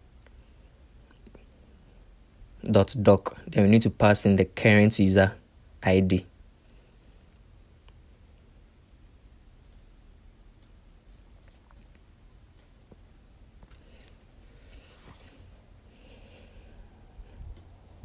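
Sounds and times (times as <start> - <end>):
faint background hiss: 0.0 - 18.0.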